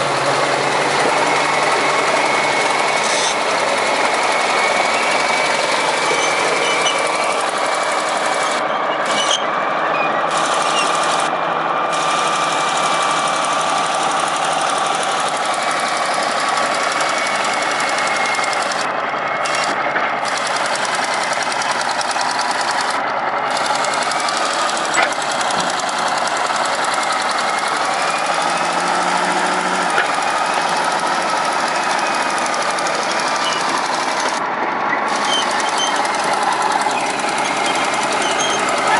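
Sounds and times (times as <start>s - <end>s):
construction machinery engines rattling: 0.0s - 38.9s.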